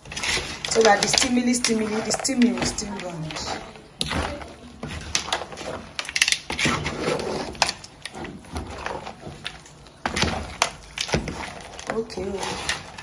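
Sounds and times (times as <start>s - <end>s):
spoon stirring soup in a pot: 0.0s - 13.0s.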